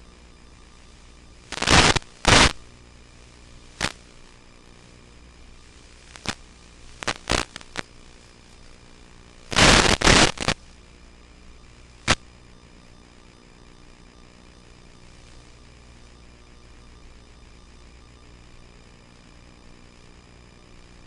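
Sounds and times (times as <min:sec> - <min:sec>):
crackling radio static: 0:00.0 - 0:21.0
faint steady hum: 0:00.0 - 0:21.0.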